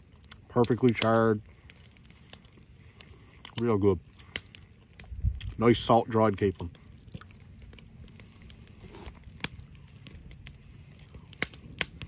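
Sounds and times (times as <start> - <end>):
crunching and chewing fish: 0.0 - 12.0.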